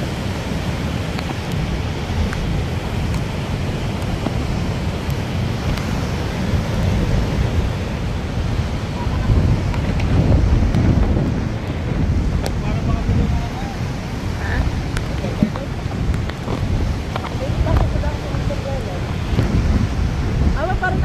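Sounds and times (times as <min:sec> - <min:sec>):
surf breaking on shore: 0:00.0 - 0:21.0
wind buffeting microphone: 0:00.0 - 0:21.0.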